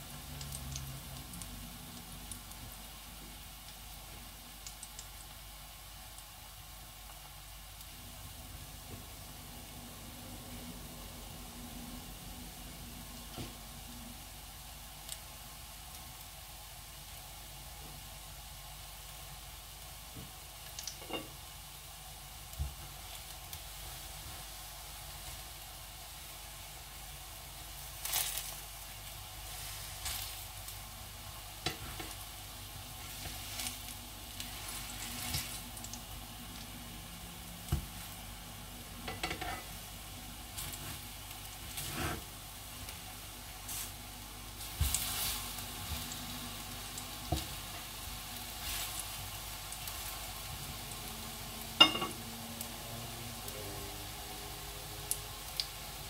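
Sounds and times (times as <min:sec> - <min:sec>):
slices sizzling in oil: 0:00.0 - 0:56.0.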